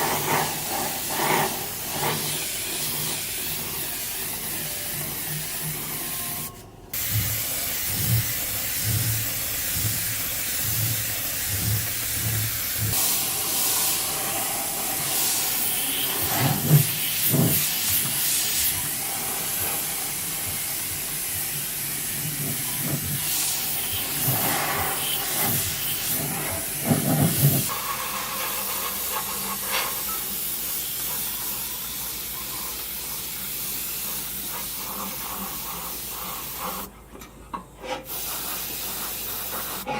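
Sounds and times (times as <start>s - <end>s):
compressed air spray hissing: 0.0s - 36.9s, 38.1s - 39.9s.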